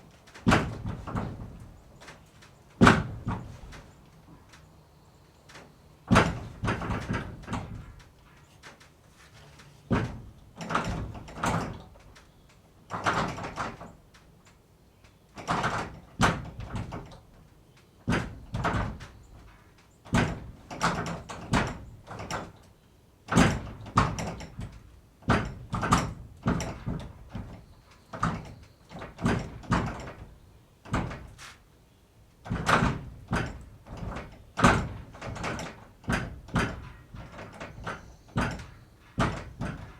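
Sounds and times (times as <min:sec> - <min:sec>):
barn door banging and rattling: 0:00.1 - 0:04.6, 0:05.5 - 0:14.4, 0:15.3 - 0:31.6, 0:32.2 - 0:39.9.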